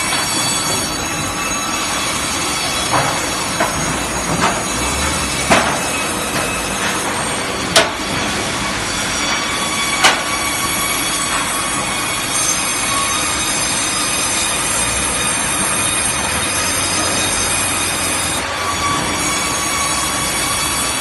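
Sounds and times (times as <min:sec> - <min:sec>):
bandsaw whine: 0:00.0 - 0:21.0.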